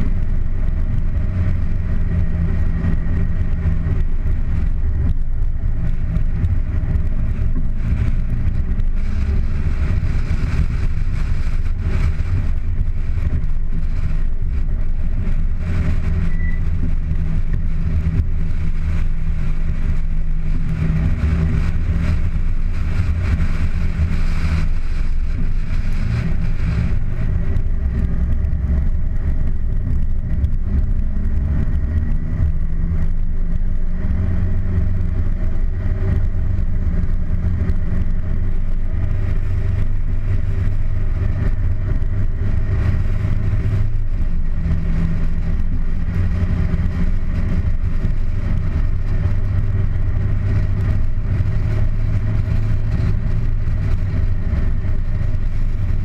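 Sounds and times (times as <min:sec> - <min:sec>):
car engine drone: 0:00.0 - 0:56.0
tyre noise on wet road: 0:00.0 - 0:56.0.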